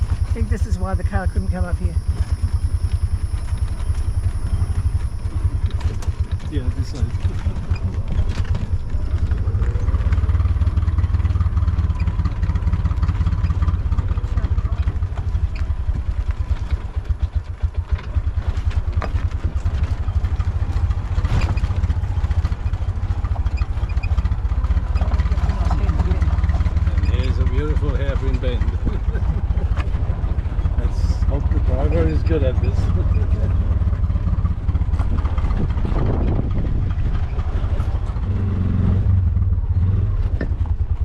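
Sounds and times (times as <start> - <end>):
auto-rickshaw engine rumble: 0.0 - 41.0
cab rattling: 0.0 - 41.0.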